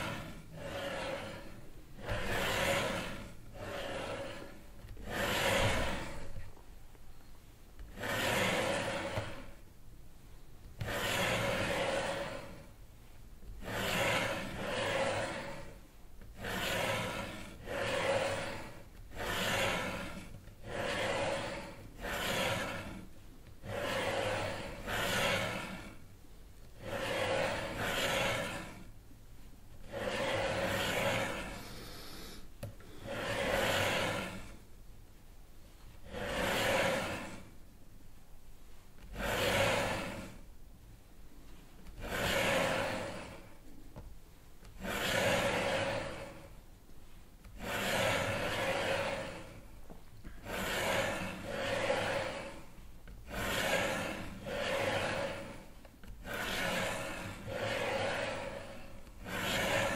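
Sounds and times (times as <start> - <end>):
rasping rubbing noise: 0.0 - 59.9.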